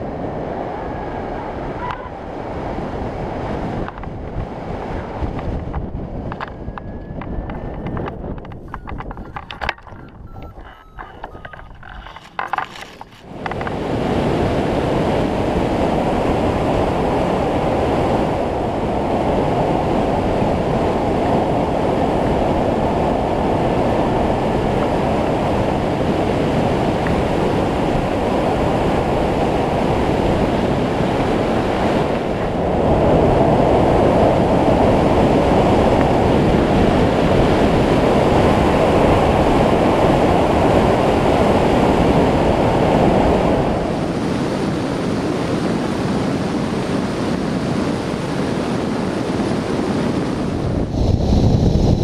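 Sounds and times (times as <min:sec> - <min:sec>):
wind rushing over camera: 0:00.0 - 0:52.0.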